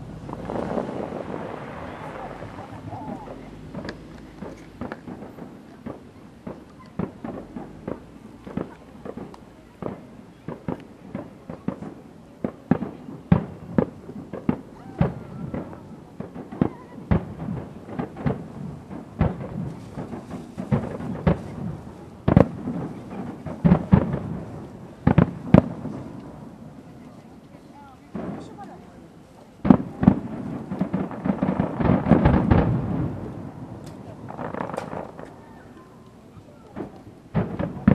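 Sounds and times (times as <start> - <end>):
firework shells bursting: 0.0 - 26.5, 29.6 - 37.9.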